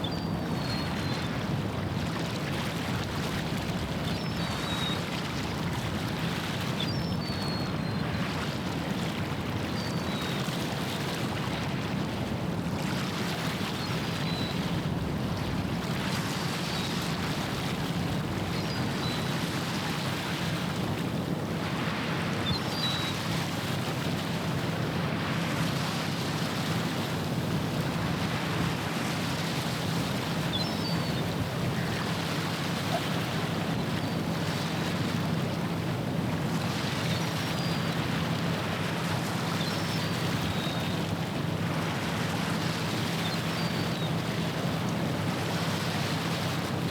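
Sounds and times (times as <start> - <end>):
wind: 0.0 - 46.9.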